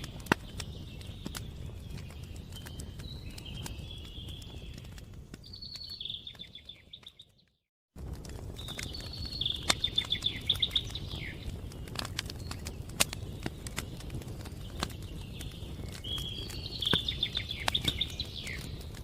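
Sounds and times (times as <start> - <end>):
bird singing trilled phrases: 0.0 - 7.6, 8.6 - 19.0
wood fire crackling and popping: 0.0 - 19.0.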